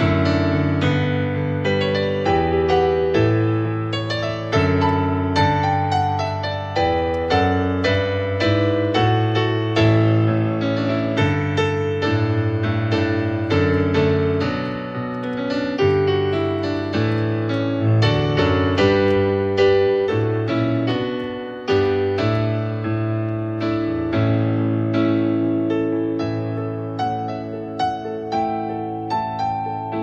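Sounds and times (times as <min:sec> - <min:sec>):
piano playing chords and melody: 0:00.0 - 0:30.0.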